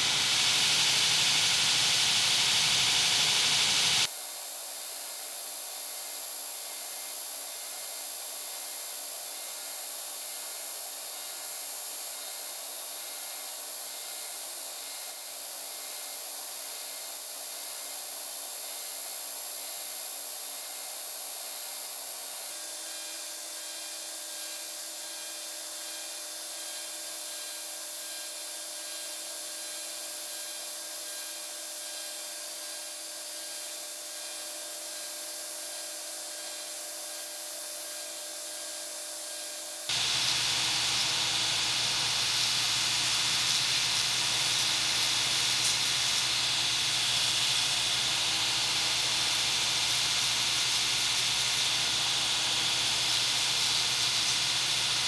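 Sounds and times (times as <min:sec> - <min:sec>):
power tool running: 0:00.0 - 0:04.1, 0:06.6 - 0:55.0.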